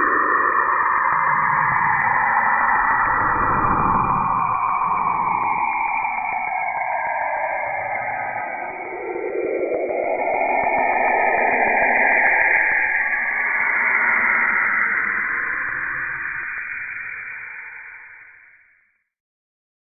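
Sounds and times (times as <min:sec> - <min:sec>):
eerie sweeping hiss and whistling: 0:00.0 - 0:18.4.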